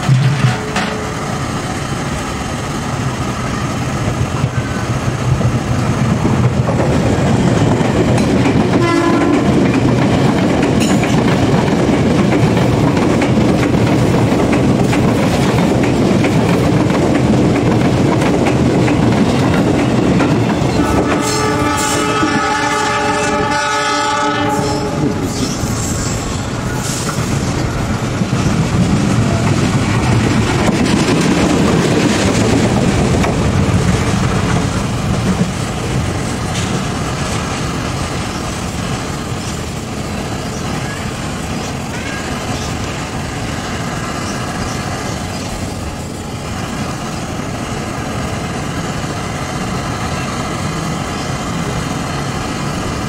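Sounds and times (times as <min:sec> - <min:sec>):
locomotive running: 0:00.0 - 0:53.0
train wheels rumbling on rails: 0:00.0 - 0:53.0.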